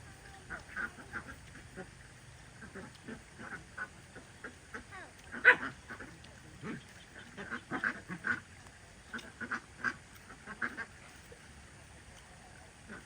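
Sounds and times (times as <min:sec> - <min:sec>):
ducks quacking: 0:00.0 - 0:11.4, 0:12.8 - 0:13.0.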